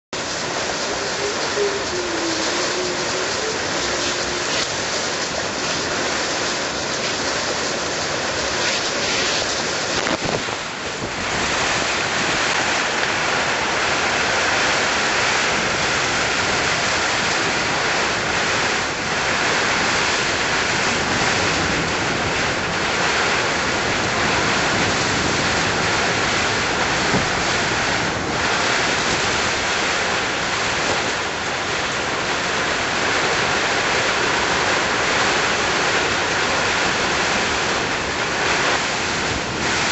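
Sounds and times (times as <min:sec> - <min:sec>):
torrential rain: 0:00.0 - 0:39.9
strong wind: 0:00.2 - 0:39.9.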